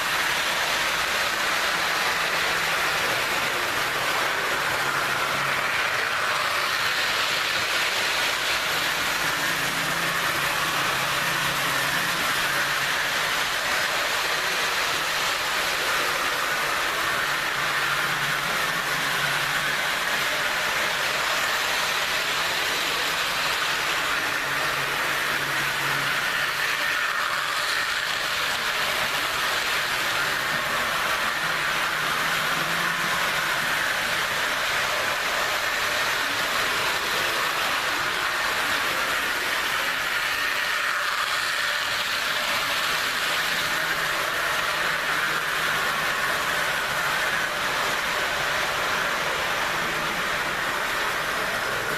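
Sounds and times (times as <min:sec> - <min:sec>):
model train motor whine: 0:00.0 - 0:51.9
wheel noise on rails: 0:00.0 - 0:51.9.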